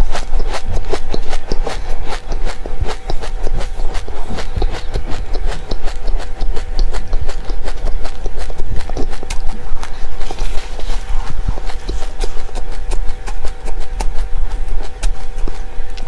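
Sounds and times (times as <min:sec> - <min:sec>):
crunching dry seeds: 0:00.0 - 0:16.0
steady low hum: 0:00.0 - 0:16.0.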